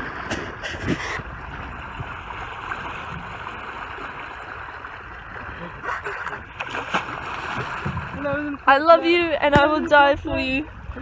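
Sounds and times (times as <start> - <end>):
water rushing along boat hull: 0.0 - 11.0.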